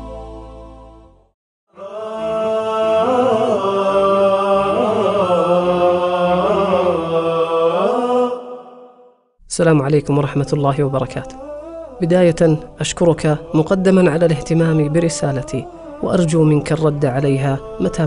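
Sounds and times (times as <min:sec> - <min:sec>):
wordless chanted singing: 0:01.7 - 0:18.0.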